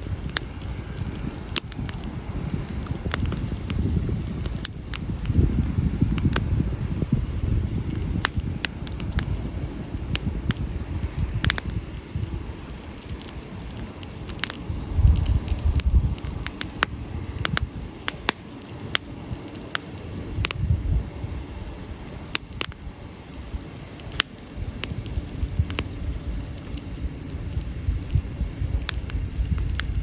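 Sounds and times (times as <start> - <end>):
campfire crackling and popping: 0.0 - 30.0
low fire rumble: 0.0 - 30.0.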